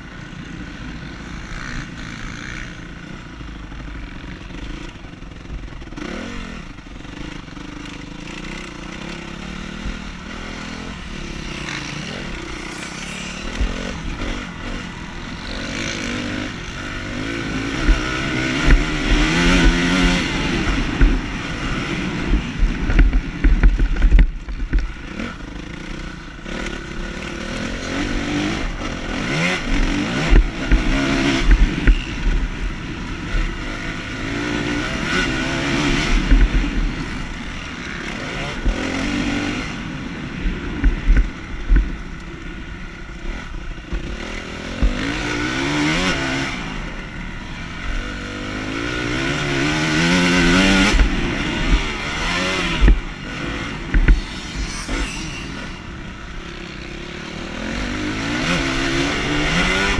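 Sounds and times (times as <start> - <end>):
motocross bike engine revving: 0.1 - 59.9.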